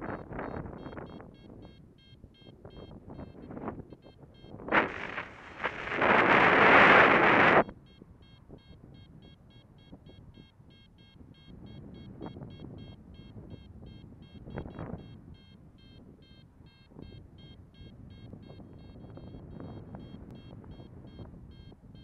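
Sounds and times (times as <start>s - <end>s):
wind rumble on microphone: 0.0s - 10.4s, 11.2s - 22.0s
variometer beeping rapidly: 0.2s - 22.0s.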